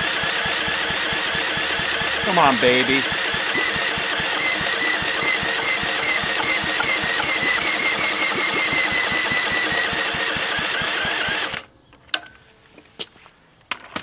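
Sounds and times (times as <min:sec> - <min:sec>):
cordless drill whine: 0:00.0 - 0:11.7
engine turning over chuffs: 0:00.0 - 0:11.7.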